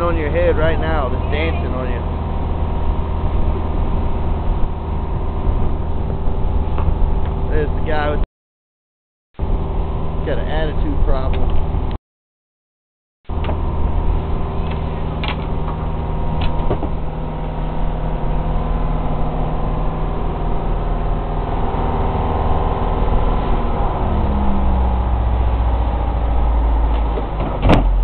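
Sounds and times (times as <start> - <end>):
boat engine running: 0.0 - 8.2, 9.4 - 12.0, 13.3 - 28.0.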